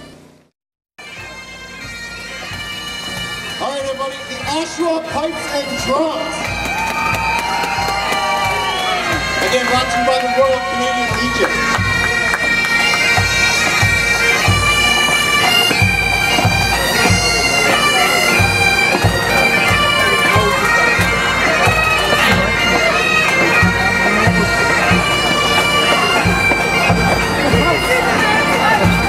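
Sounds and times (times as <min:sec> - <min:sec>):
bagpipe drones: 0:01.0 - 0:29.0
bagpipes playing a tune: 0:01.0 - 0:29.0
drums beating: 0:01.2 - 0:29.0.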